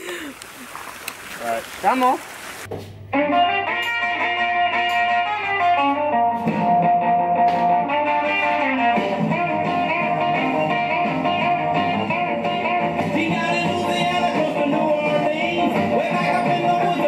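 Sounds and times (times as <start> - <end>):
guitar melody: 3.0 - 17.0.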